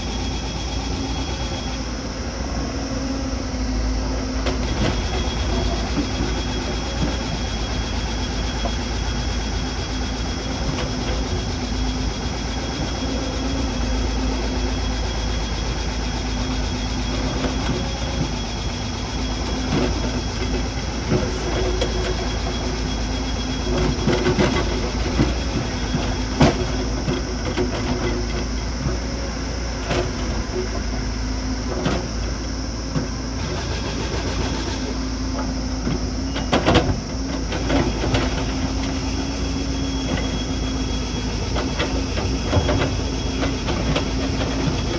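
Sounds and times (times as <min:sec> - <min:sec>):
heavy machine engine running: 0:00.0 - 0:44.9.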